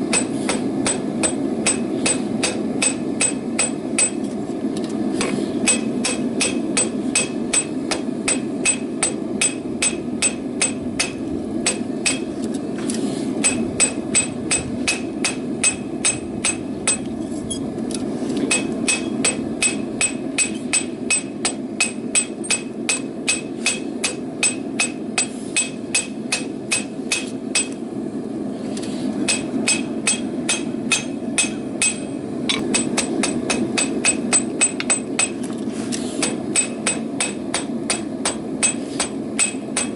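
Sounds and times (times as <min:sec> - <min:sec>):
hammer striking metal on anvil: 0:00.0 - 0:04.3, 0:05.6 - 0:12.4, 0:13.4 - 0:17.1, 0:18.5 - 0:27.8, 0:29.3 - 0:35.4, 0:36.2 - 0:39.9.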